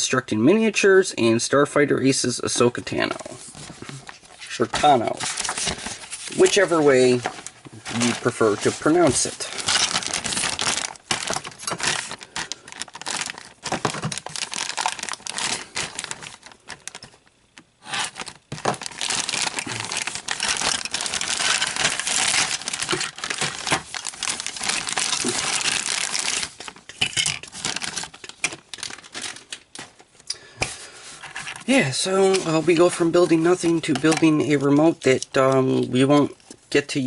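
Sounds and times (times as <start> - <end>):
plastic packaging crinkling: 2.8 - 30.2, 31.1 - 36.9.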